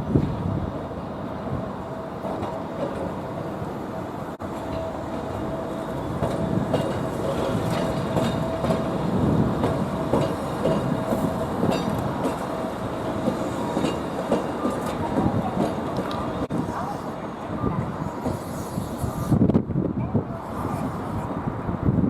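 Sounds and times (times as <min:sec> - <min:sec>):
tram rumbling on track: 0:00.0 - 0:22.0.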